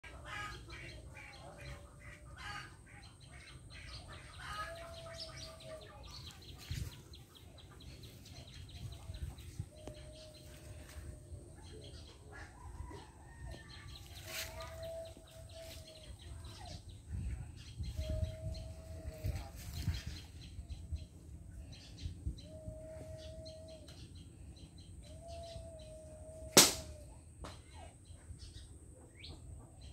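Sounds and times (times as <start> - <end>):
background noise: 0.0 - 29.9
long level bird call: 0.0 - 29.9.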